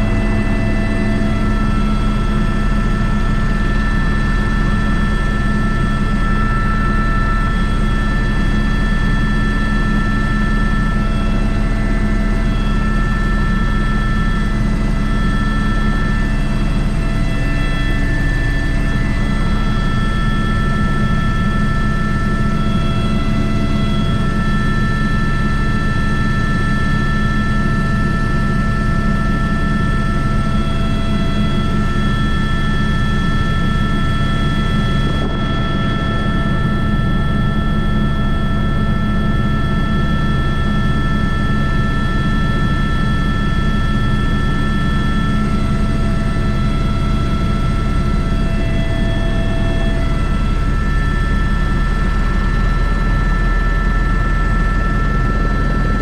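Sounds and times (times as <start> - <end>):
helicopter rotor drone: 0.0 - 56.0
high turbine whine: 0.0 - 56.0.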